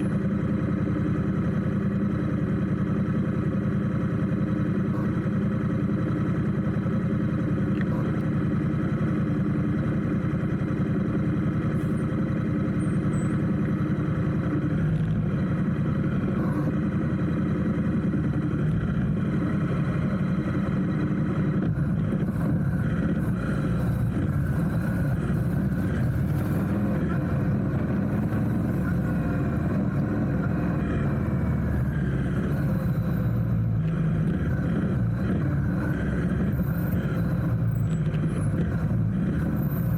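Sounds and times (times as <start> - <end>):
vehicle engines in traffic: 0.0 - 39.9.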